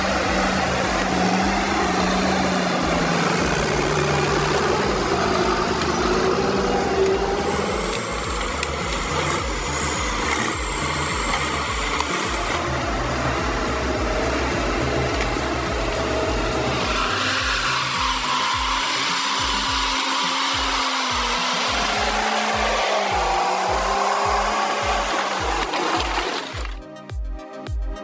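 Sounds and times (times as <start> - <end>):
diesel engine under load: 0.0 - 26.8
low hum: 0.0 - 26.8
thin high whine: 0.0 - 26.8.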